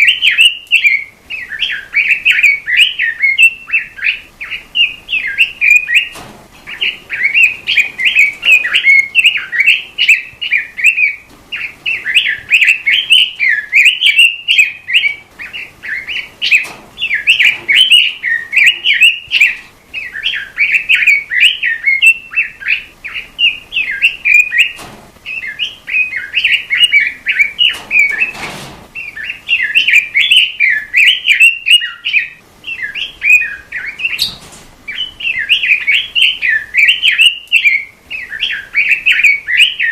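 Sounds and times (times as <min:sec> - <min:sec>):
robin singing: 0:00.0 - 0:39.9.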